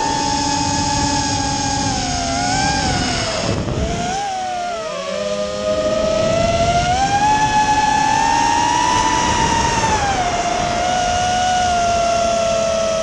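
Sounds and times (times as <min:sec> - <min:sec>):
drone motors whining: 0:00.0 - 0:13.0
wind rush: 0:00.0 - 0:13.0.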